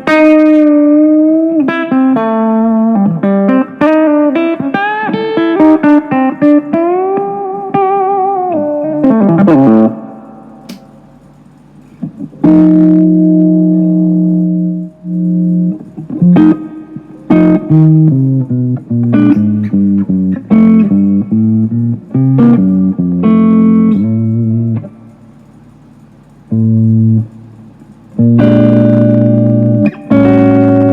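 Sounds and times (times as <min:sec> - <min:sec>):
guitar chords and picked notes: 0:00.0 - 0:11.2, 0:11.9 - 0:25.4, 0:26.4 - 0:30.9.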